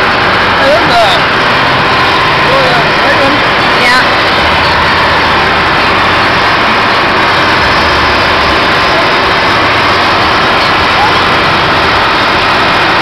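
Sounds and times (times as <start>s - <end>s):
mechanical drone: 0.0s - 13.0s.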